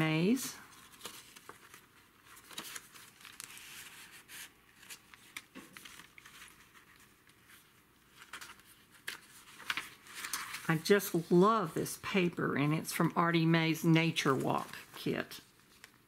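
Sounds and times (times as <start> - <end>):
paper pages rustling and turning: 0.0 - 12.4, 14.1 - 16.0.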